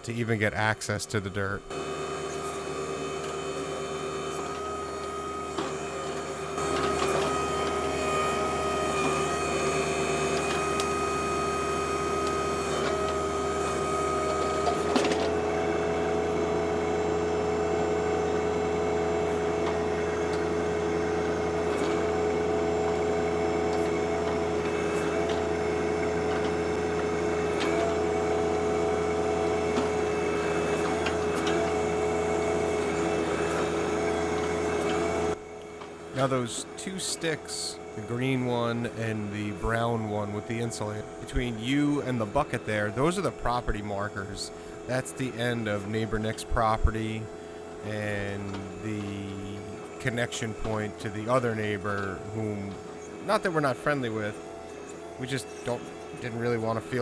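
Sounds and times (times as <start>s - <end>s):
diesel tractor engines running: 0.0s - 57.0s
hydraulic whine: 0.0s - 57.0s.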